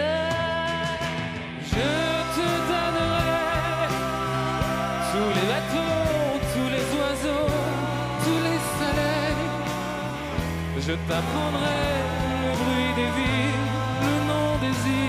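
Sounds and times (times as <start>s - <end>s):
live band playing pop song: 0.0s - 15.0s
man singing: 0.0s - 15.0s.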